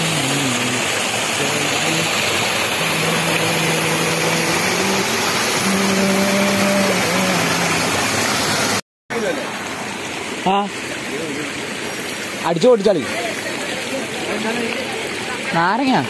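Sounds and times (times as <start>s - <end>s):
waterfall splashing into pool: 0.0s - 16.0s.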